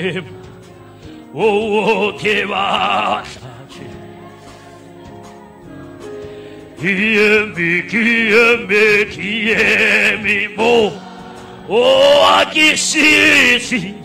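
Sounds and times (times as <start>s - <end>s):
man singing gospel: 0.0s - 4.6s, 6.7s - 14.0s.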